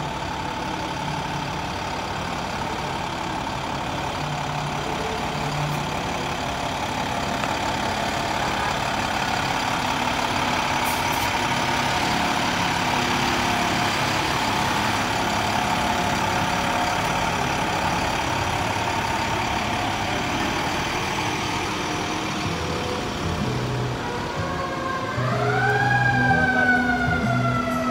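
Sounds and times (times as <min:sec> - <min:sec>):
fire truck engine passing: 0:00.0 - 0:27.9.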